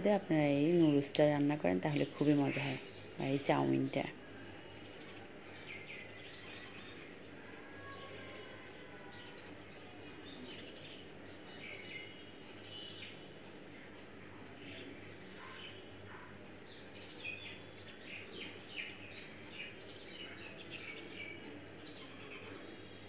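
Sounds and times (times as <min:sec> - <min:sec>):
faint birds chirping: 0:00.0 - 0:23.0
steady low hum: 0:00.0 - 0:23.0.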